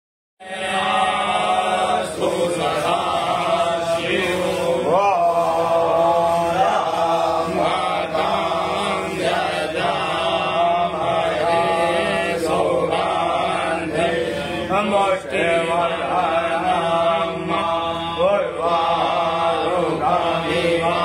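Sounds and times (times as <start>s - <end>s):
person chanting: 0.4s - 21.0s
steady drone: 0.5s - 21.0s.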